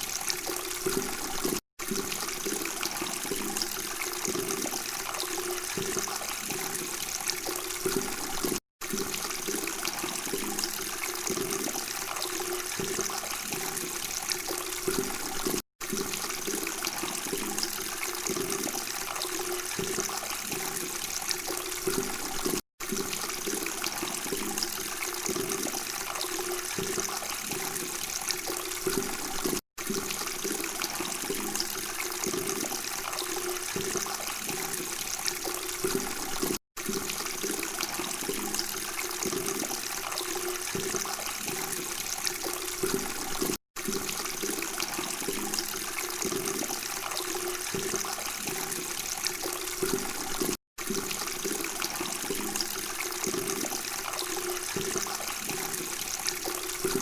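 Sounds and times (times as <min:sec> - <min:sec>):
running water trickling and gurgling: 0:00.0 - 0:57.0.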